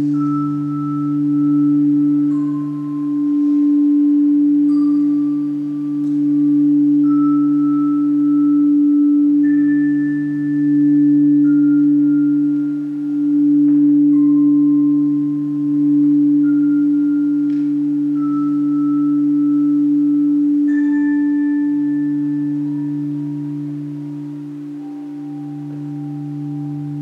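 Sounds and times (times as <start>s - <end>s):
high chime-like notes: 0.0s - 27.0s
low hum: 0.0s - 27.0s
singing bowl drone: 0.0s - 27.0s.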